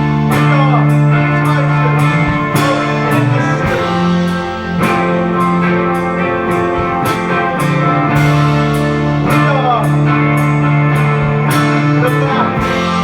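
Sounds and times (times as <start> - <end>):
bass guitar: 0.0 - 13.0
cymbals hitting steady beat: 0.0 - 13.0
electric guitars sustained chords: 0.0 - 13.0
sliding guitar notes: 0.0 - 13.0.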